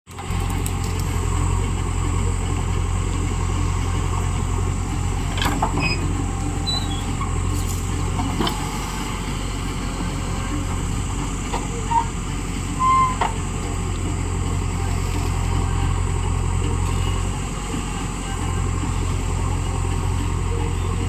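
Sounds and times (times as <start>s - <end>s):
heavy diesel engine running: 0.1s - 21.0s.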